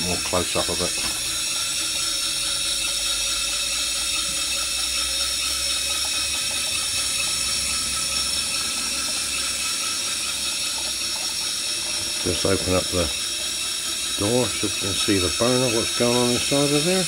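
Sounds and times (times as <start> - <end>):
steam and burner hissing: 0.0 - 17.0.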